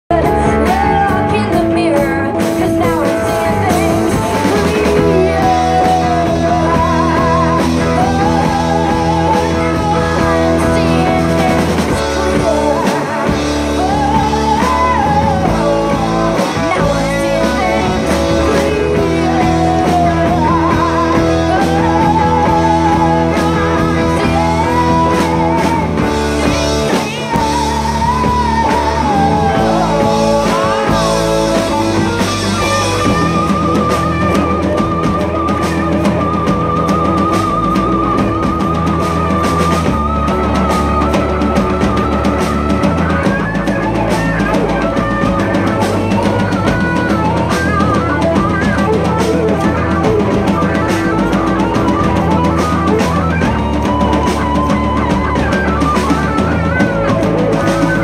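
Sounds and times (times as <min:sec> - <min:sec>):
live rock band playing: 0:00.0 - 0:58.0
woman singing with vibrato: 0:00.1 - 0:58.0.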